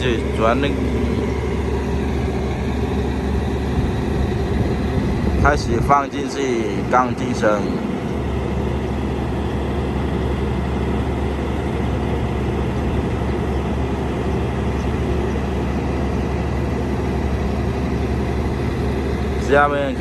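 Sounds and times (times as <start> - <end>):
heavy diesel engine droning: 0.0 - 20.0.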